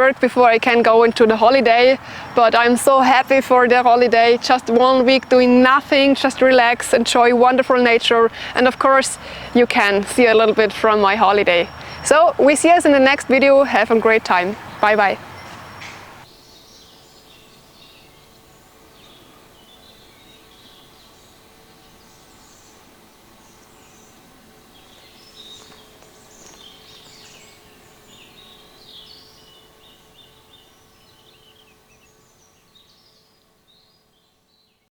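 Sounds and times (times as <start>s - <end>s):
faint steady hum: 0.0s - 34.8s
songbirds chirping and singing: 0.3s - 34.8s.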